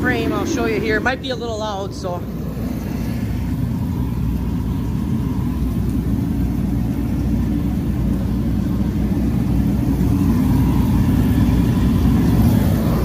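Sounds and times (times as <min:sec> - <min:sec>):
heater low roar: 0:00.0 - 0:13.0.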